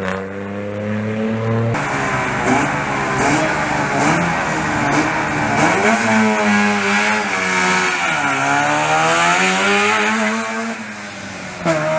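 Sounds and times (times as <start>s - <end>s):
rally car engine revving high: 1.8s - 11.9s.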